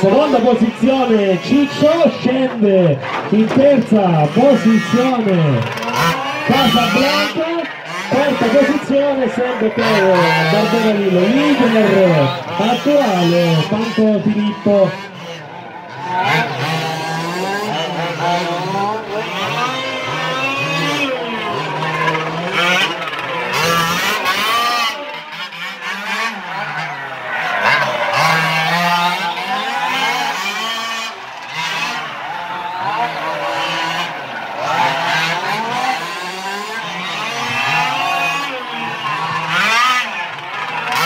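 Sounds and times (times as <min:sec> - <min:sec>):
small two-stroke engines whining: 0:00.0 - 0:41.0.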